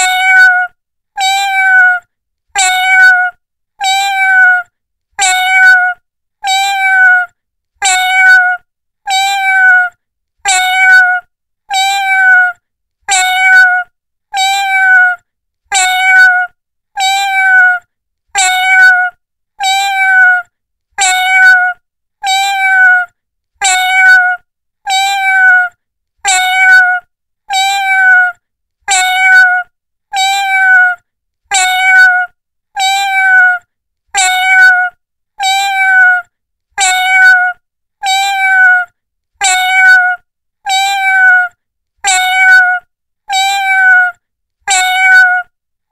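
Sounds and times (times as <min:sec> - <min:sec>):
cat meowing: 0:00.0 - 0:45.5.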